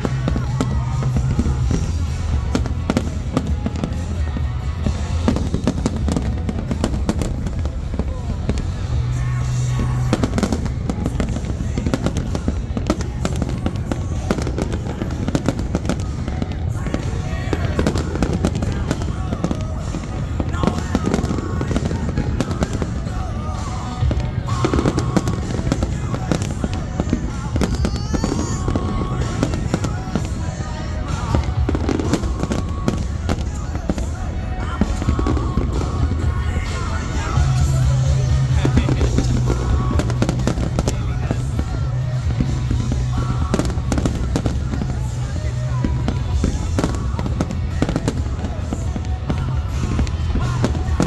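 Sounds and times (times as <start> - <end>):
fireworks bangs and crackles: 0.0 - 51.0
low rumble: 0.0 - 51.0.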